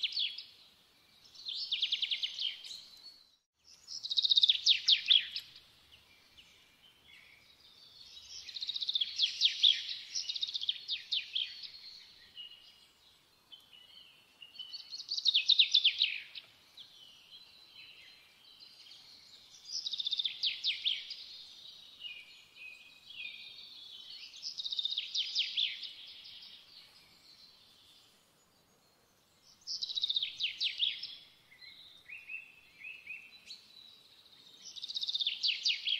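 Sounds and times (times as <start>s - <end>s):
soft bird twittering: 0.0s - 35.9s.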